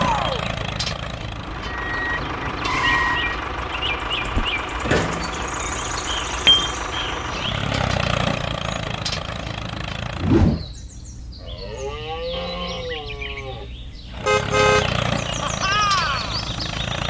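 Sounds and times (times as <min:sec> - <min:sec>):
tractor engine idling: 0:00.0 - 0:11.2, 0:13.9 - 0:17.0.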